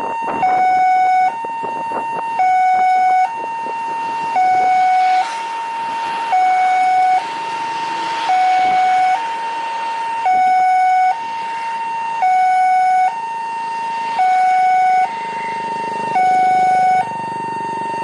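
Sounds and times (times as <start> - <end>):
two-tone siren: 0.0 - 18.0.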